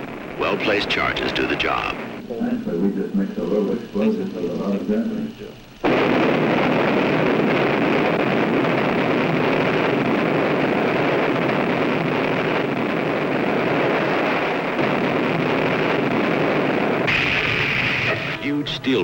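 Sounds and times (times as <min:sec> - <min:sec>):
buildings collapsing roar: 0:00.0 - 0:19.0.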